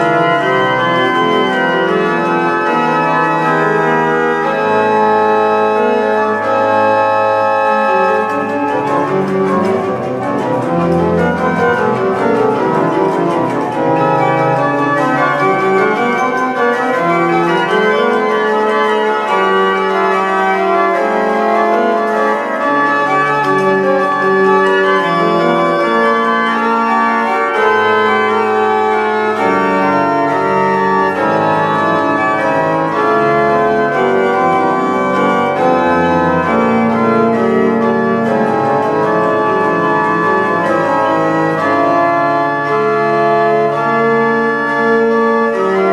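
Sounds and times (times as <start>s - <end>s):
organ music: 0.0s - 45.9s.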